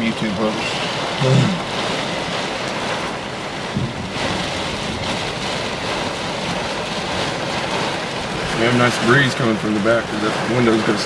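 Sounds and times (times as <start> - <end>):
rain: 0.0 - 11.0
wind: 0.0 - 11.0.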